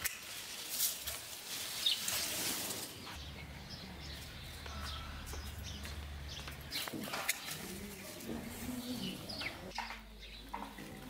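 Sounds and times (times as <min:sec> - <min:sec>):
small birds chirping: 0:01.6 - 0:11.0.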